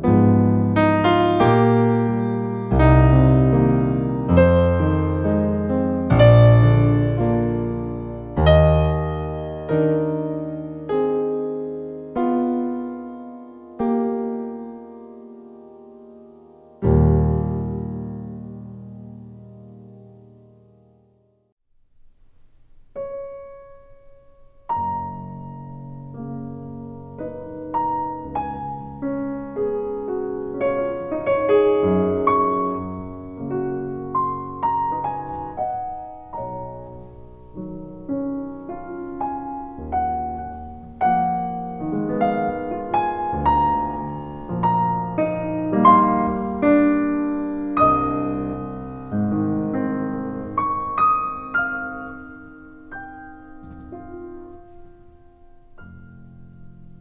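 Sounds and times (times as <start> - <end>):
soft solo piano: 0.0 - 21.6, 22.7 - 57.0.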